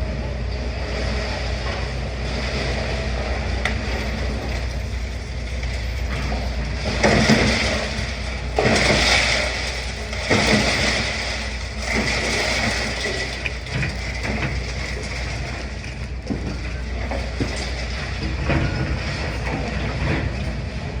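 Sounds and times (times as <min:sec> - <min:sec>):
excavator diesel engine running: 0:00.0 - 0:21.0
rubble crunching and scraping: 0:01.8 - 0:21.0.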